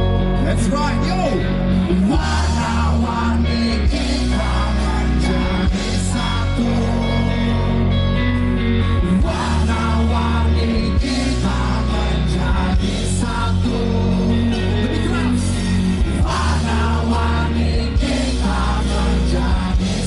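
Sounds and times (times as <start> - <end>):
bass guitar: 0.0 - 20.0
electric guitars: 0.0 - 20.0
man singing lead vocal: 0.0 - 20.0
drum kit: 2.1 - 7.2, 9.0 - 20.0.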